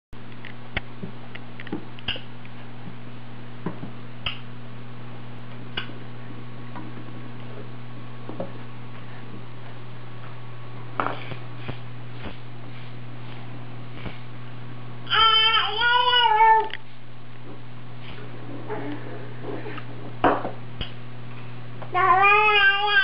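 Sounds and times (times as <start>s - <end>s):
steady low hum: 0.2s - 23.0s.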